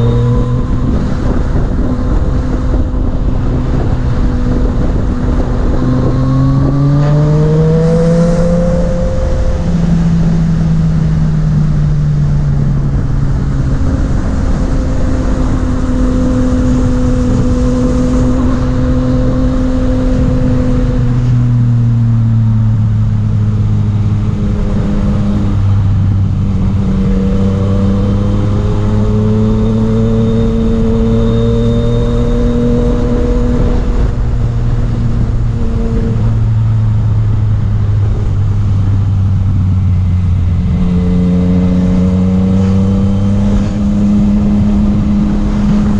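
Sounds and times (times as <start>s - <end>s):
motorcycle engine running: 0.0s - 45.9s
wind noise rushing: 0.0s - 45.9s.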